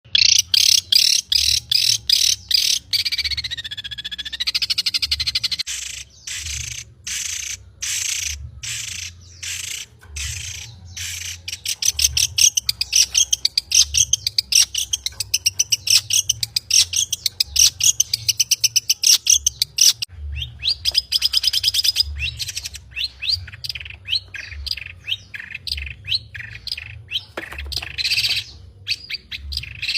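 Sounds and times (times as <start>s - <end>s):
bird singing chattering and whistles: 0.1s - 29.9s.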